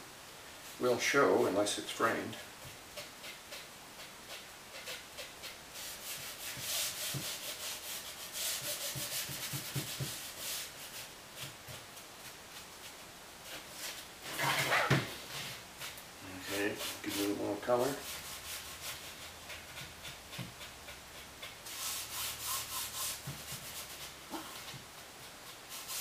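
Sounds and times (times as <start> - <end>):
sponge scrubbing on canvas: 3.0 - 26.0.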